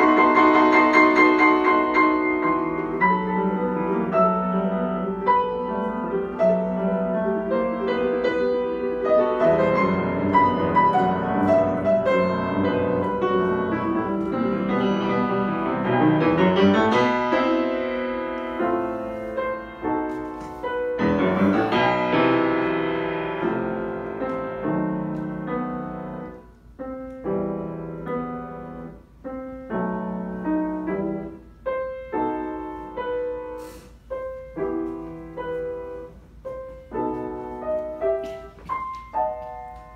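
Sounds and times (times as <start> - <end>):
solo classical grand piano: 0.0 - 39.9.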